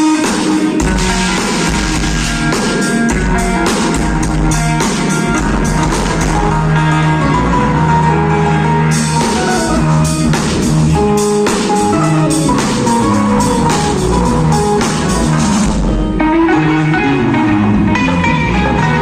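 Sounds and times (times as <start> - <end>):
rock music with guitar and drums: 0.0 - 19.0.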